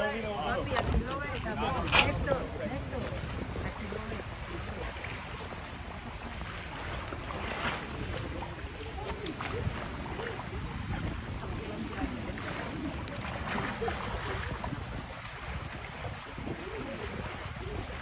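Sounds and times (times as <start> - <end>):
moving water: 0.0 - 18.0
wind buffeting microphone: 0.0 - 18.0.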